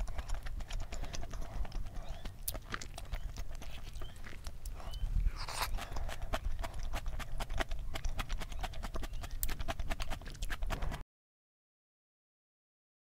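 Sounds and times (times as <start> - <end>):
chewing clicks: 0.0 - 11.0.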